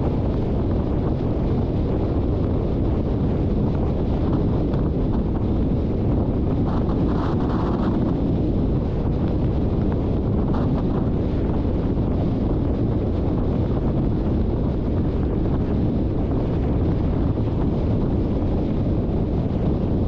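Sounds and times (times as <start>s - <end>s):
car road noise rumble: 0.0s - 20.0s
wind buffeting microphone: 0.0s - 20.0s.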